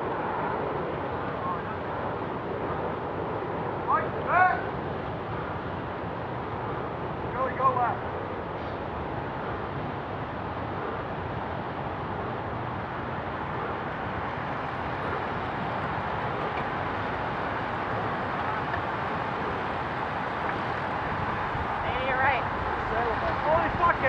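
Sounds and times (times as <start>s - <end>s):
wind rush: 0.0s - 24.0s.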